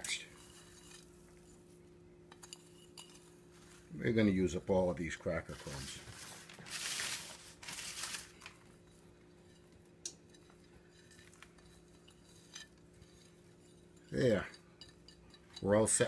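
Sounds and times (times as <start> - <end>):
faint steady hum: 0.0 - 16.0
rustling scrapes of crumbs: 0.1 - 4.2, 5.3 - 15.5.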